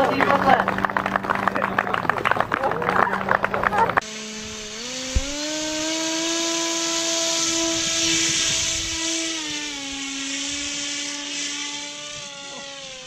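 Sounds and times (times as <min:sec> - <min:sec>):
propeller motor whining: 0:00.0 - 0:13.0.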